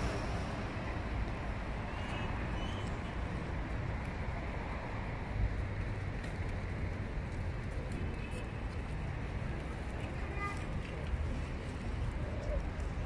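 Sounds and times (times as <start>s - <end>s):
distant road traffic: 0.0s - 13.0s.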